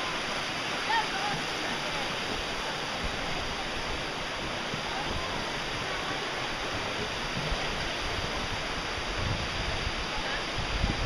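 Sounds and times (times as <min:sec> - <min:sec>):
creek water tumbling over rocks: 0:00.0 - 0:11.0.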